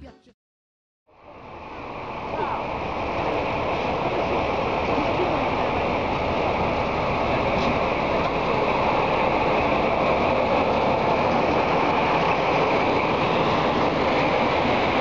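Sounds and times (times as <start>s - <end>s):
diesel locomotive engine running: 1.1s - 15.0s.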